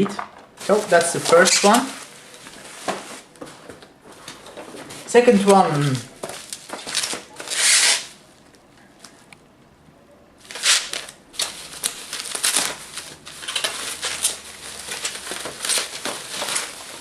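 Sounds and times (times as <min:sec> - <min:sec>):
packing material rustling: 0:00.0 - 0:08.3, 0:10.4 - 0:17.0.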